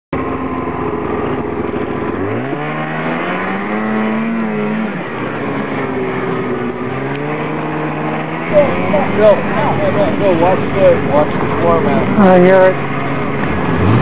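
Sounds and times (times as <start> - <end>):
vehicle engine revving: 0.2 - 14.0.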